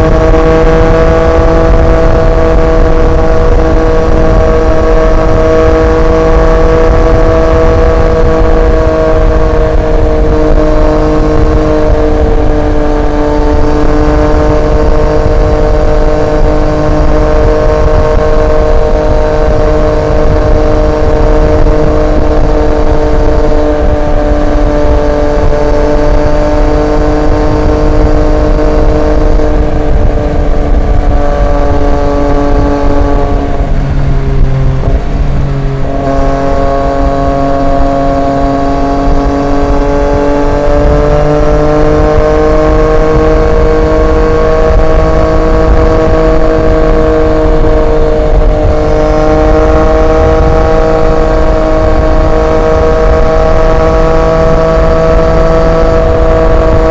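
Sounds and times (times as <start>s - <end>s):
low wind rumble: 0.0s - 56.9s
motorcycle engine cruising: 0.0s - 56.9s.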